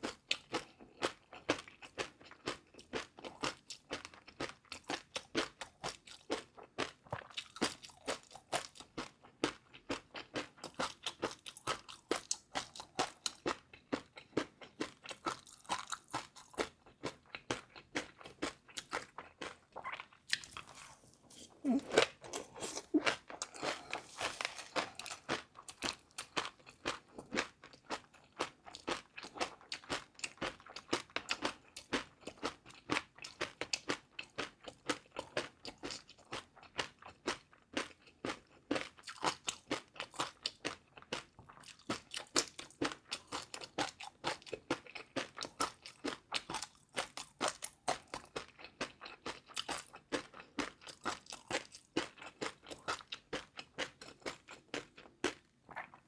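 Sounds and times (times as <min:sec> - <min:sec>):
crunchy chewing: 0:09.8 - 0:56.0.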